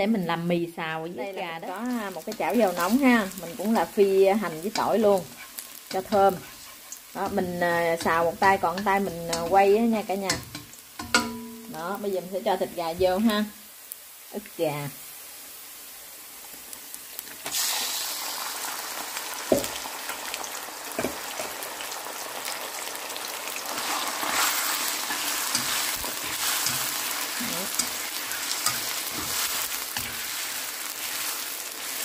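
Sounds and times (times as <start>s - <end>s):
chicken sizzling in hot oil: 0.0s - 32.0s.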